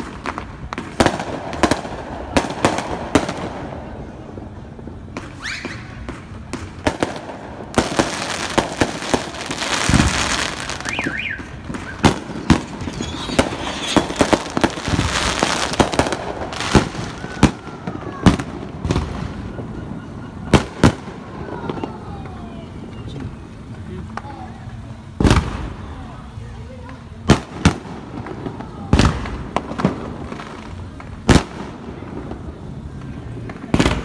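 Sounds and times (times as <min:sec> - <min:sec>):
fireworks bangs: 0:00.0 - 0:34.0
fireworks crackling hiss: 0:00.0 - 0:34.0.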